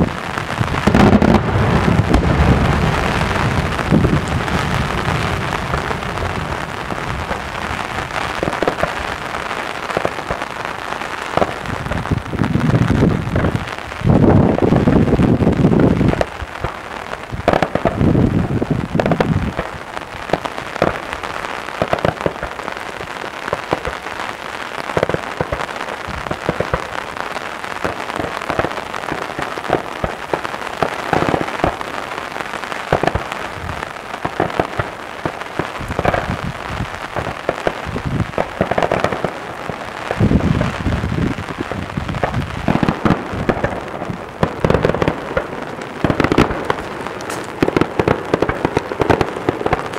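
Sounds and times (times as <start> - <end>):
fireworks booms: 0.0 - 49.9
fireworks crackling: 0.0 - 49.9.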